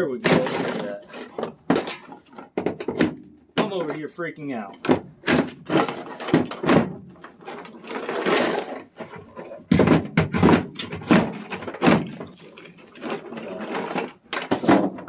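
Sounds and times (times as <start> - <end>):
cracking and scraping: 0.0 - 15.0.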